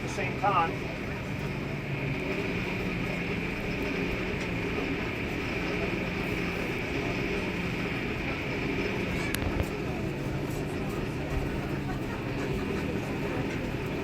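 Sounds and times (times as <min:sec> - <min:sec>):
forge blower rushing: 0:00.0 - 0:14.0
low hum: 0:00.0 - 0:14.0.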